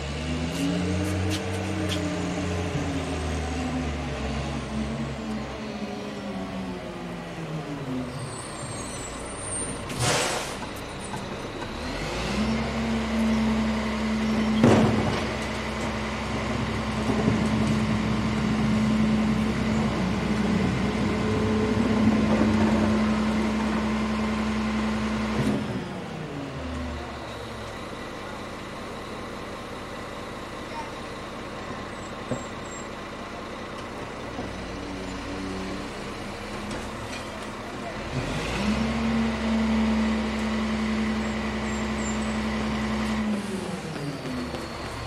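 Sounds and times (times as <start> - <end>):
garbage truck engine humming: 0.0 - 45.0.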